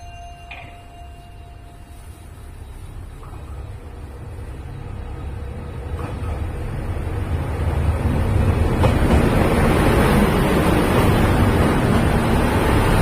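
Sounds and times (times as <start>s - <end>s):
diesel train rumbling: 0.0s - 13.0s.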